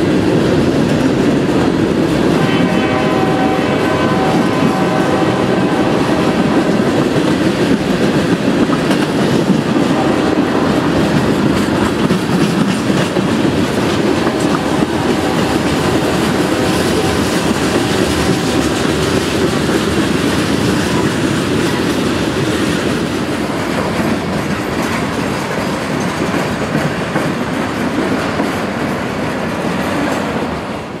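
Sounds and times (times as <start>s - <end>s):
freight train rumbling past: 0.0s - 31.0s
wheels clacking over rail joints: 0.0s - 31.0s.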